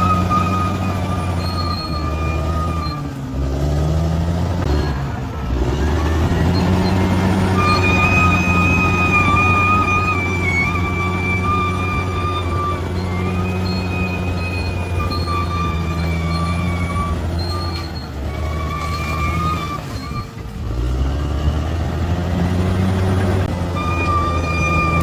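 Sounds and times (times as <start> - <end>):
diesel engine running under load: 0.0 - 25.0.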